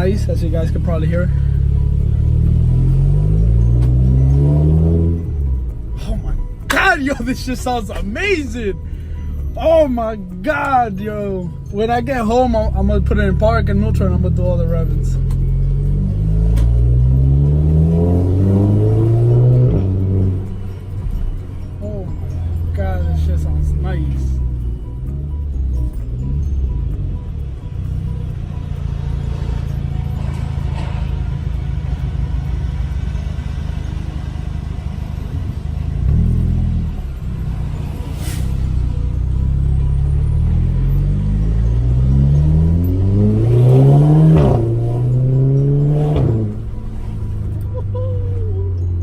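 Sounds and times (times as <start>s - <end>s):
car engine accelerating: 0.0s - 49.0s.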